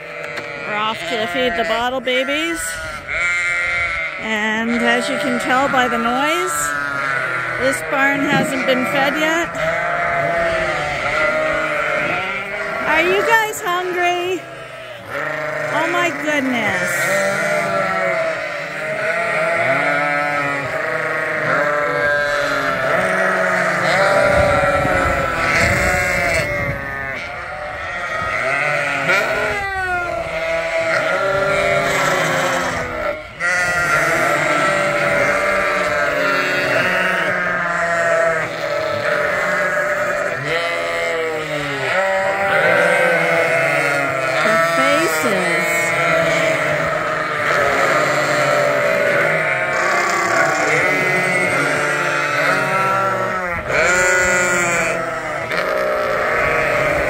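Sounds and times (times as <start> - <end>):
sheep bleating: 0.0 - 57.0.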